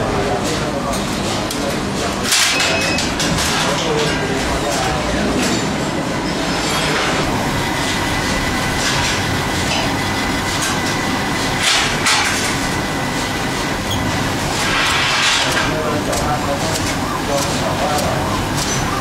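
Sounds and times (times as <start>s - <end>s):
machine rumble and hiss: 0.0s - 19.0s.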